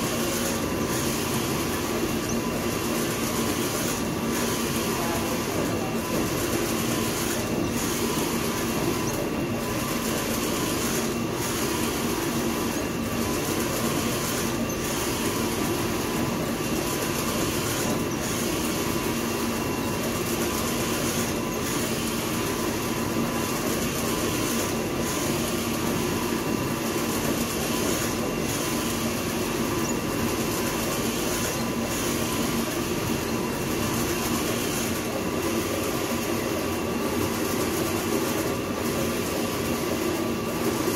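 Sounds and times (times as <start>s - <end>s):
printing machinery running: 0.0s - 40.9s.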